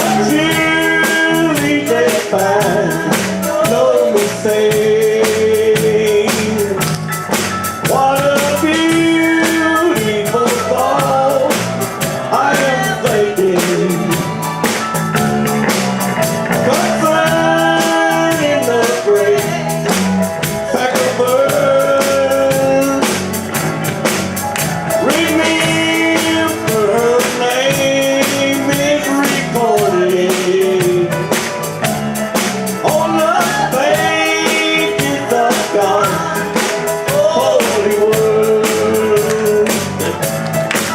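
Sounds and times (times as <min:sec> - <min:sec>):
country gospel band music: 0:00.0 - 0:40.9.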